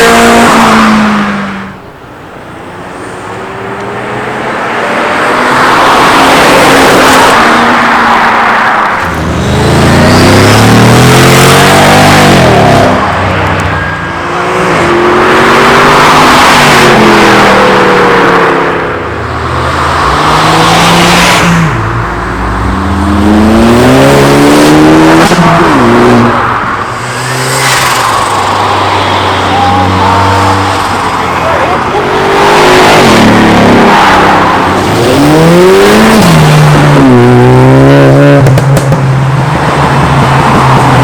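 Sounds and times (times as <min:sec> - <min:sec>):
cars accelerating hard: 0:00.0 - 0:01.8, 0:02.4 - 0:41.0.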